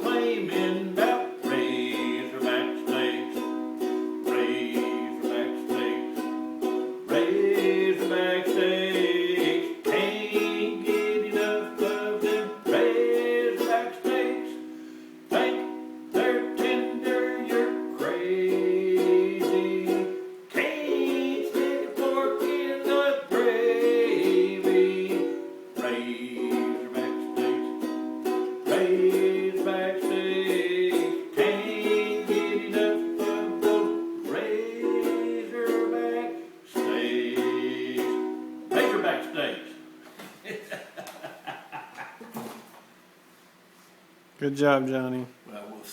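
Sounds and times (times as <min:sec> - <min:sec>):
plucked string instrument strumming: 0:00.0 - 0:40.0.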